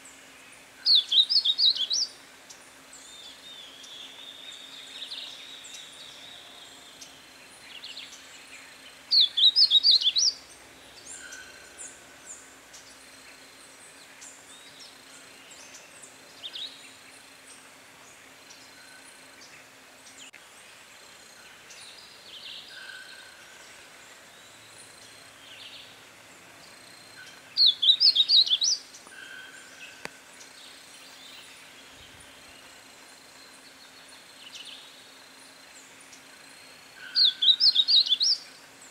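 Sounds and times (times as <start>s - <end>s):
faint steady hum: 0.0s - 38.9s
faint bird chirps: 0.8s - 20.4s, 26.6s - 38.9s.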